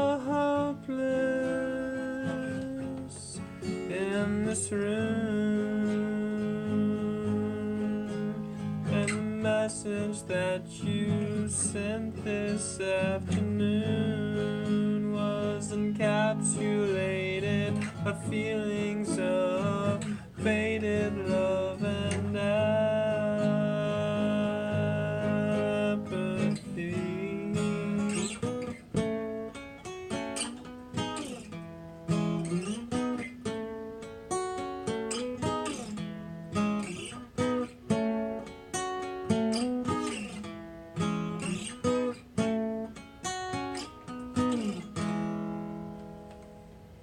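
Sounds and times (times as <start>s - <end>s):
acoustic guitar chord ringing: 0.0s - 47.0s
acoustic guitar picked notes: 0.0s - 47.0s.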